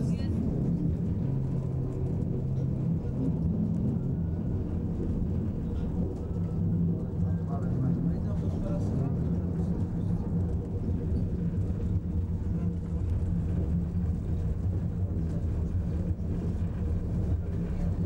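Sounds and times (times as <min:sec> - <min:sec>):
funicular car humming: 0:00.0 - 0:18.0.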